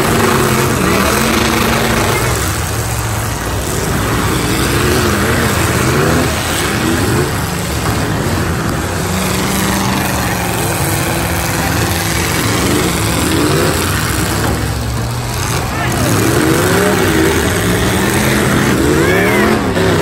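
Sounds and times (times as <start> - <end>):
car engines revving hard: 0.0 - 20.0
constant broad din: 0.0 - 20.0.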